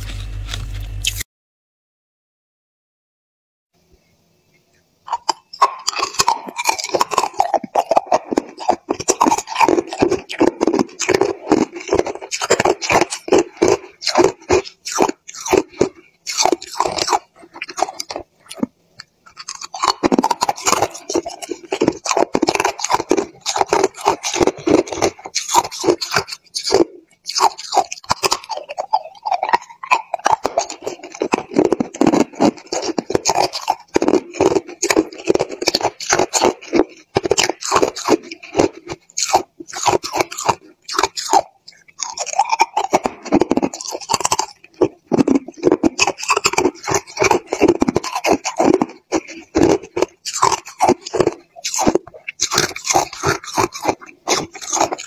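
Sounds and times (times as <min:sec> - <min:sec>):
ice being crunched by teeth: 0:00.0 - 0:01.2, 0:05.1 - 0:55.0.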